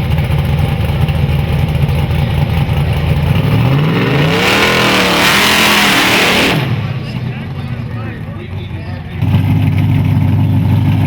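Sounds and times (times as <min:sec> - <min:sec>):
car engine revving: 0:01.9 - 0:11.0.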